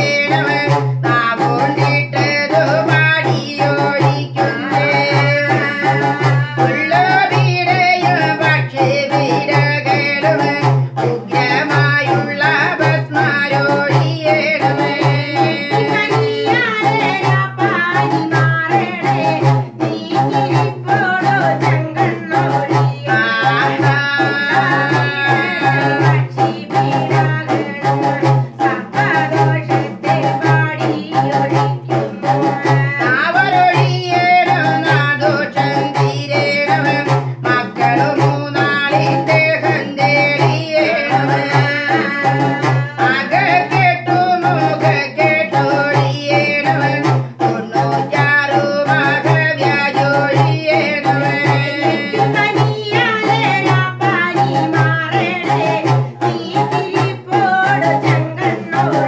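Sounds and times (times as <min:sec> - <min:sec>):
person singing folk song: 0:00.0 - 0:59.0
plucked string pot drum: 0:00.0 - 0:59.0.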